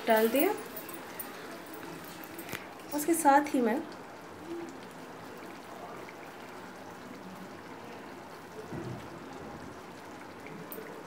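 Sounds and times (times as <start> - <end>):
gravy simmering with bubbling hiss: 0.0 - 11.0.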